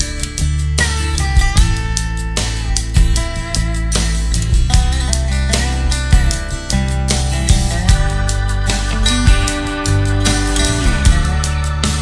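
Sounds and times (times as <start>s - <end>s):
guitar playing: 0.0s - 12.0s
steady drum beat: 0.0s - 12.0s.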